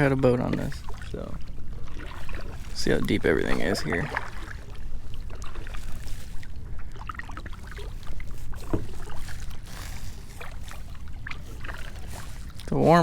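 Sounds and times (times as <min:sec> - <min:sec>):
kayak paddle pulling through water: 0:00.0 - 0:13.0
water splashes and drips: 0:00.0 - 0:13.0.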